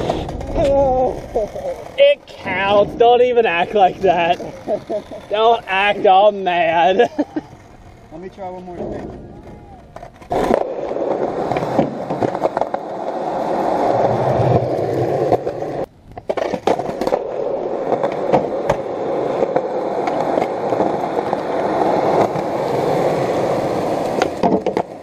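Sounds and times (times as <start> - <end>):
skateboard clacks: 0.0 - 2.8, 3.4 - 25.0
skateboard rolling over concrete: 0.0 - 25.0.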